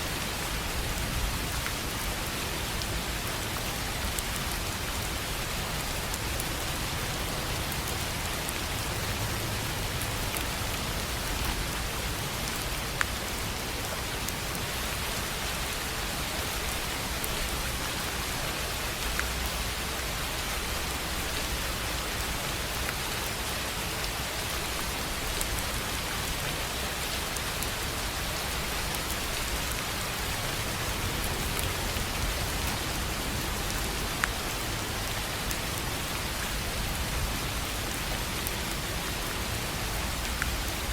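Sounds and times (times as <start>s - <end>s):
rain on a tin roof: 0.0s - 40.9s.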